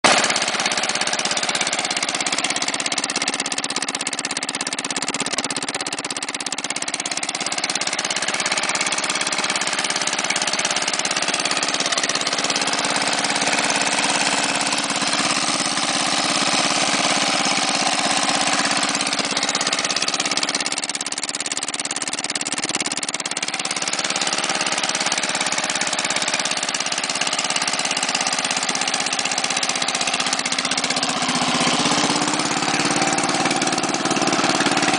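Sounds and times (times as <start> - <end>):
small engine idling: 0.0 - 34.9.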